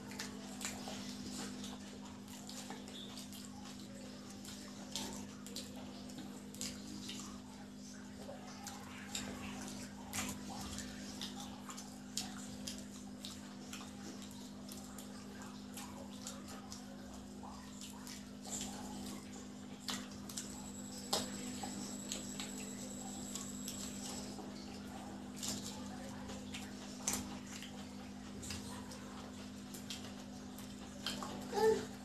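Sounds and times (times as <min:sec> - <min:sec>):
people chewing: 0:00.0 - 0:32.0.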